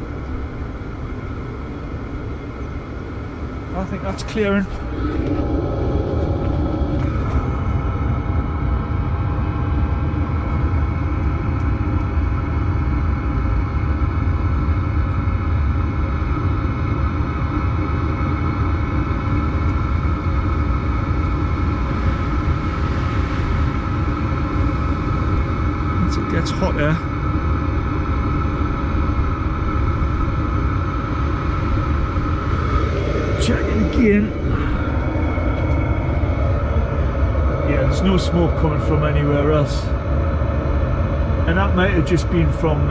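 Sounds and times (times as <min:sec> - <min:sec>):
diesel heater exhaust rumble: 0:00.0 - 0:42.9
faint steady whine: 0:00.0 - 0:42.9.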